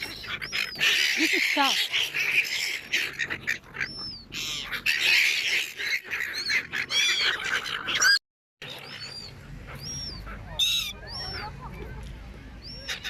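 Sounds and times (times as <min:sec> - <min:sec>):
seagulls squawking: 0:00.0 - 0:13.0.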